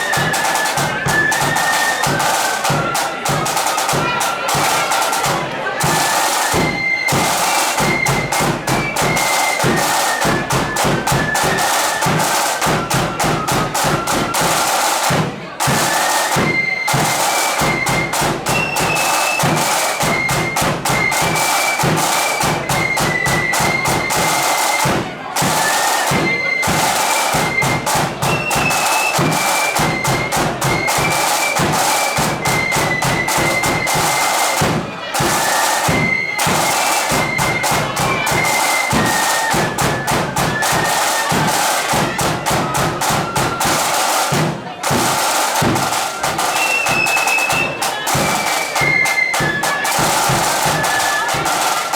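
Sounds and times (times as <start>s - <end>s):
flute band melody: 0.0s - 51.9s
snare drum strokes: 0.0s - 51.9s.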